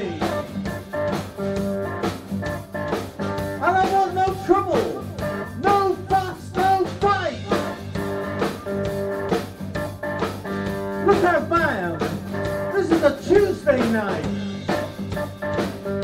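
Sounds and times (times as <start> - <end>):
drum kit beat: 0.0 - 16.0
electric guitar bending notes: 0.0 - 16.0
keyboards: 0.0 - 16.0.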